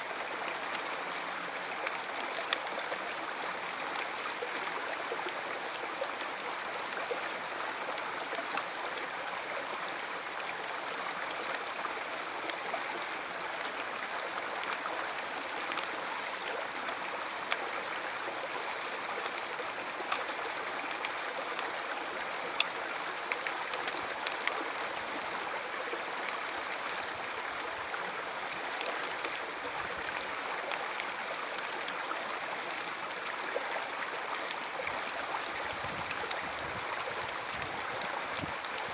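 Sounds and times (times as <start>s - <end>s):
river rushing: 0.0s - 38.9s
small splashes and trickles: 0.0s - 38.9s.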